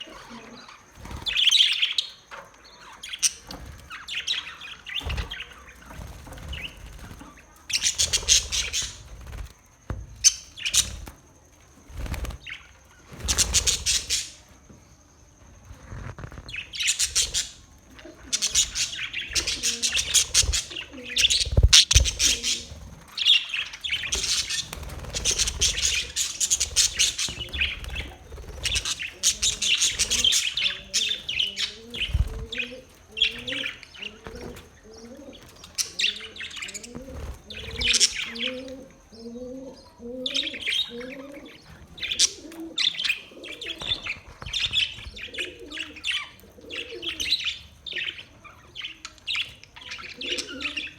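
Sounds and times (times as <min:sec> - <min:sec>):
budgerigars chirping and warbling: 0:00.0 - 0:09.4, 0:12.0 - 0:14.4, 0:16.0 - 0:17.6, 0:18.2 - 0:38.8, 0:39.8 - 0:50.9.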